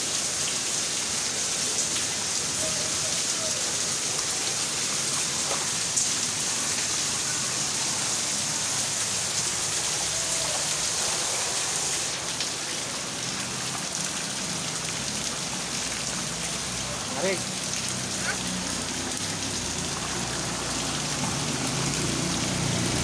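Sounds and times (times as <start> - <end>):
rain on wet paving: 0.0 - 23.0.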